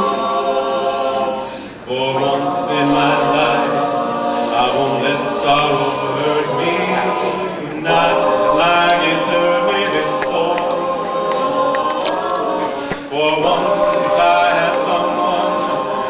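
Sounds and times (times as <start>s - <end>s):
male a cappella group singing: 0.0s - 16.0s.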